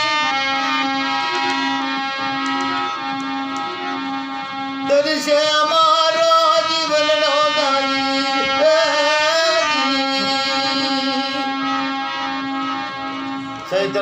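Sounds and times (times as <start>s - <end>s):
person singing wavering melody: 0.0s - 12.6s
instrumental drone: 0.0s - 14.0s.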